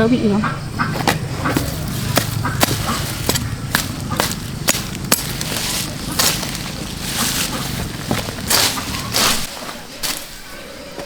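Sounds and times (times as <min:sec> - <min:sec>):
blade chopping flower stalks: 0:00.9 - 0:10.3
rustle of cut foliage: 0:00.9 - 0:10.7.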